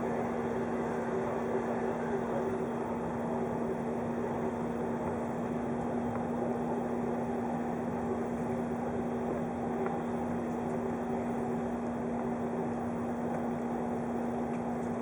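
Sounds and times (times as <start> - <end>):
train car running noise: 0.0 - 15.0.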